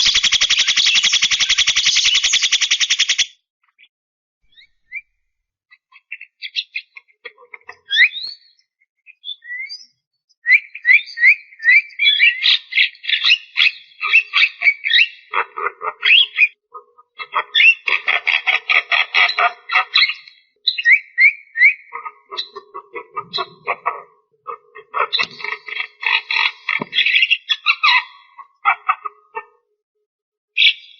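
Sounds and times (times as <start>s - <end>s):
myna bird singing: 0.0s - 17.9s, 19.3s - 29.6s, 30.6s - 30.9s.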